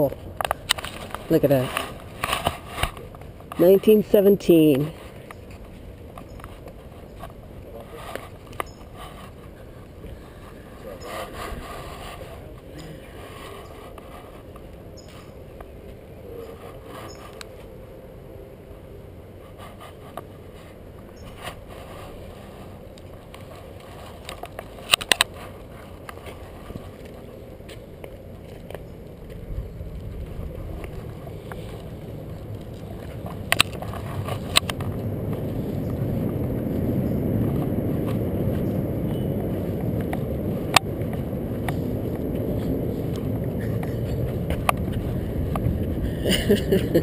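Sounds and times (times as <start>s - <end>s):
low rumbling of footbridge deck: 0.0s - 47.0s.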